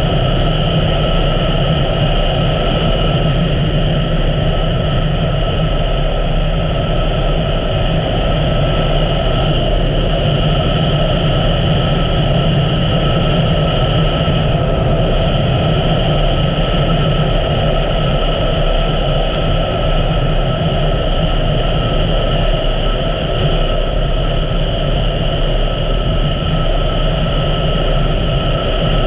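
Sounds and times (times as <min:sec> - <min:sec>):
road and wind noise: 0:00.0 - 0:29.0.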